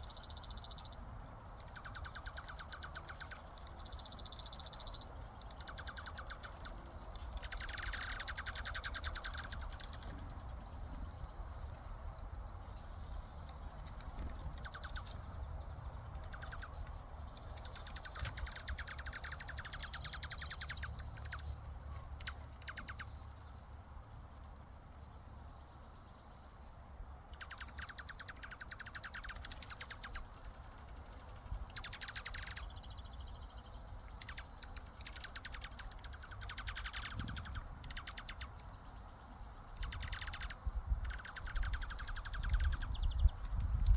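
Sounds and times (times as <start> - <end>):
birds giving rattling trills: 0.0 - 43.9.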